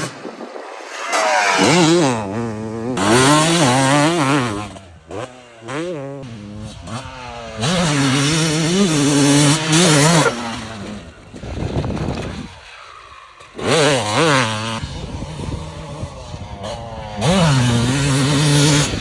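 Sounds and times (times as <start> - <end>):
motocross bike engine revving: 1.0 - 12.6, 13.2 - 19.0.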